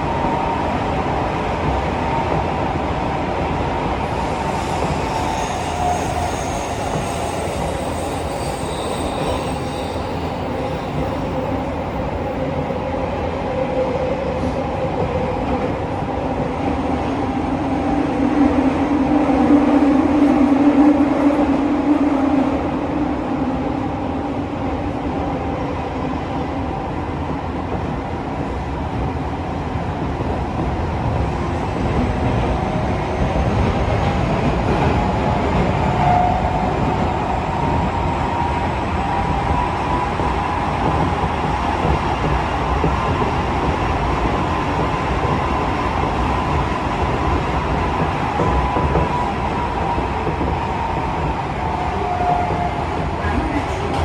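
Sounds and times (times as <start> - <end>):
subway train rumbling in tunnel: 0.0 - 54.0.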